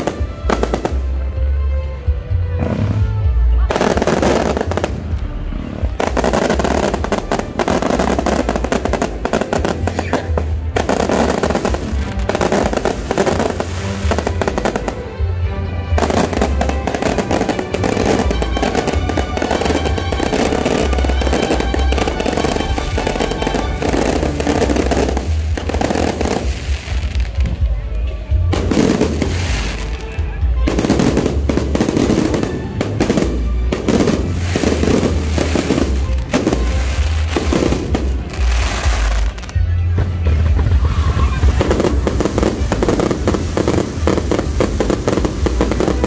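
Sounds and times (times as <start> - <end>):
fireworks exploding with crackle: 0.0 - 1.4, 2.6 - 15.2, 15.9 - 46.0
music playing: 0.0 - 46.0.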